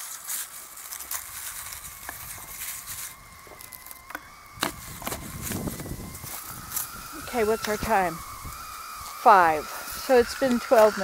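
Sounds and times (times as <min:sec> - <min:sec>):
rustling handling noise: 0:00.0 - 0:09.2
campfire crackling and popping: 0:00.0 - 0:11.0.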